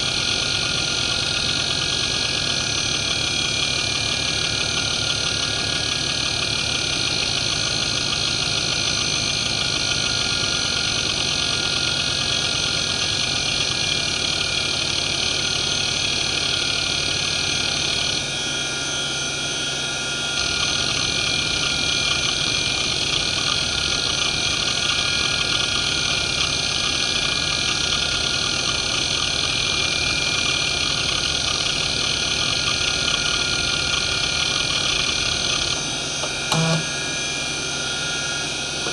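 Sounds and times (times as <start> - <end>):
high spindle whine: 0.0 - 38.9.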